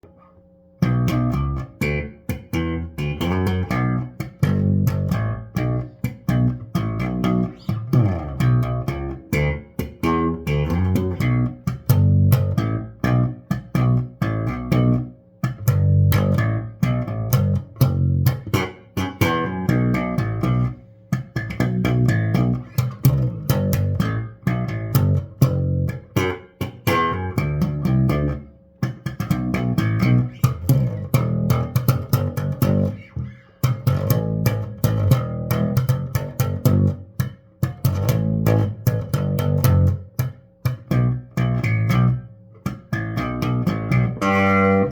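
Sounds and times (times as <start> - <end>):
slap bass guitar: 0.0 - 44.9.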